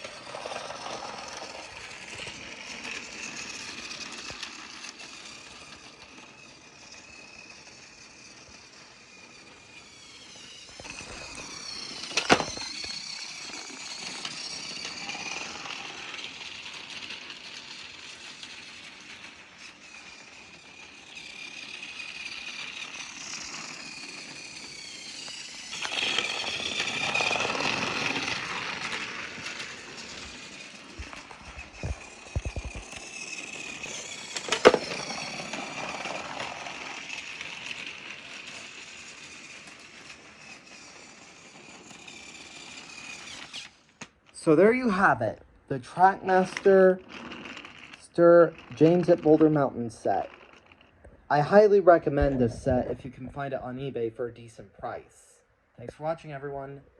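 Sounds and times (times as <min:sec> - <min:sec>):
toy train motor whirring: 0:00.0 - 0:55.3.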